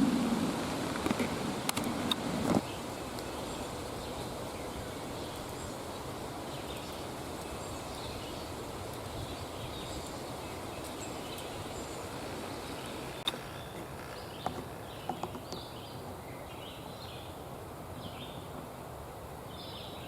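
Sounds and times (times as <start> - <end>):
open-field ambience: 0.0 - 20.0.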